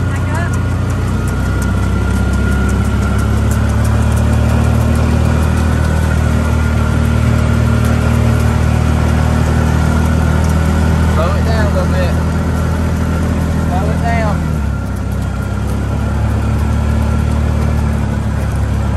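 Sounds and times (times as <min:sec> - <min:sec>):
vehicle engine humming: 0:00.0 - 0:18.9.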